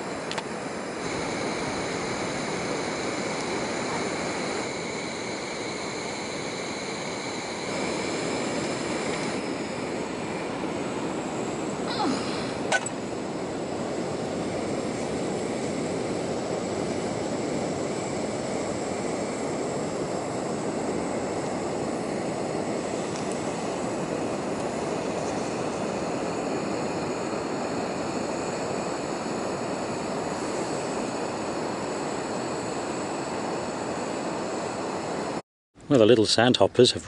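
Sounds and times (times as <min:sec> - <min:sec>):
paraffin burner roaring: 0:00.0 - 0:35.4.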